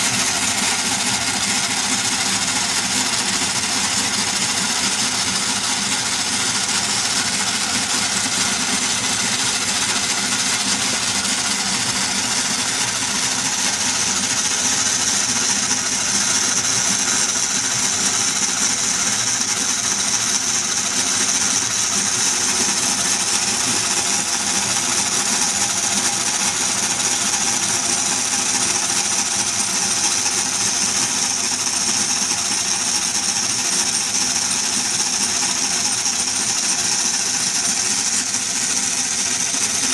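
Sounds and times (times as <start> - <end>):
model engine mechanical clatter: 0.0 - 39.9.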